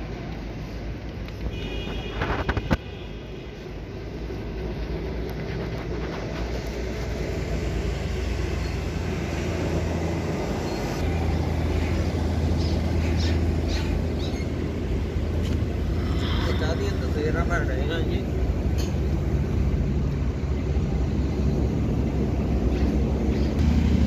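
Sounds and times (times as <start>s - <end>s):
low mechanical rumble: 3.3s - 24.0s.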